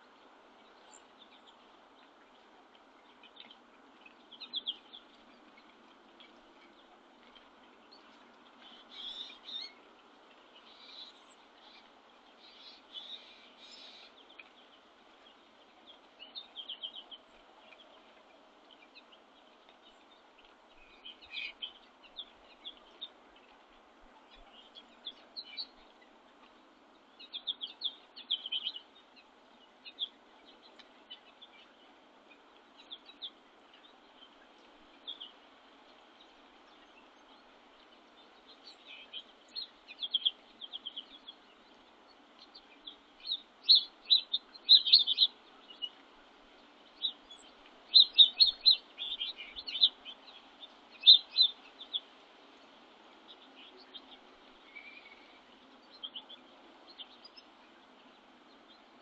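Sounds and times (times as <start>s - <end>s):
faint background hiss: 0.0s - 59.0s
small songbirds chirping: 0.0s - 59.0s.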